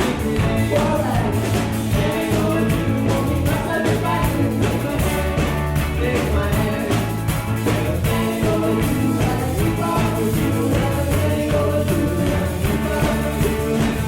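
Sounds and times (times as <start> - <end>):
drums steady beat: 0.0 - 14.0
live rock band playing: 0.0 - 14.0.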